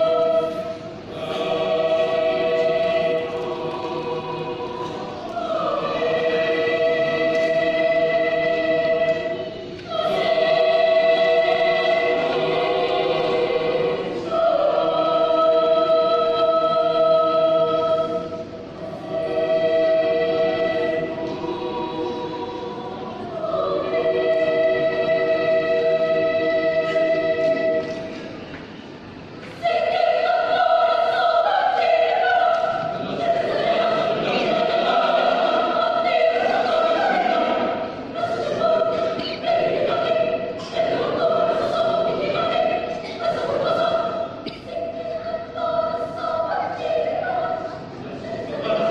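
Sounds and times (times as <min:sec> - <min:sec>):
mixed choir singing: 0:00.0 - 0:48.9.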